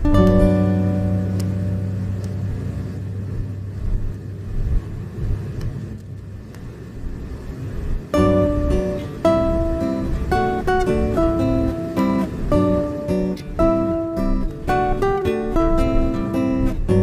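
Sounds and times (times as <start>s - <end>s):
strummed acoustic guitar: 0.0s - 4.7s, 8.0s - 17.0s
car road and engine rumble: 0.0s - 17.0s.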